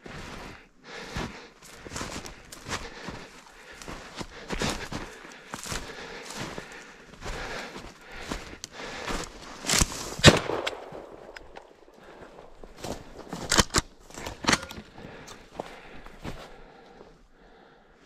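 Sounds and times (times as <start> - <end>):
footsteps crunching through snow: 0.0 - 17.0.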